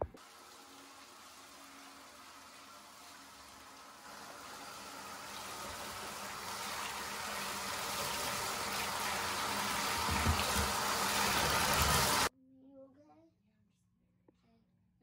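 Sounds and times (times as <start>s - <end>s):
faucet water splashing: 0.1s - 12.3s.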